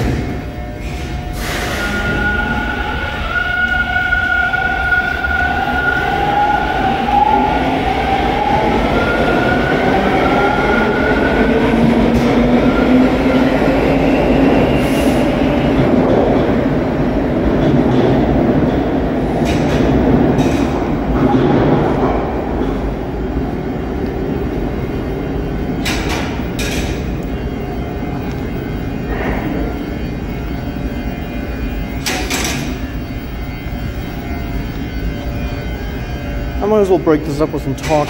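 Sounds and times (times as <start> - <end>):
subway train motors whining: 0.0 - 38.0
wheels rumbling on rail: 0.0 - 38.0.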